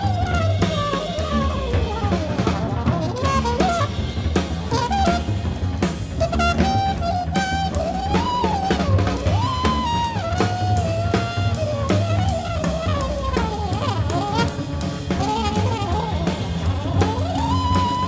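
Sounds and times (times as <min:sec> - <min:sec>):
drum kit playing: 0:00.0 - 0:18.0
horn playing sliding line: 0:00.0 - 0:18.0
walking double bass: 0:00.0 - 0:18.0.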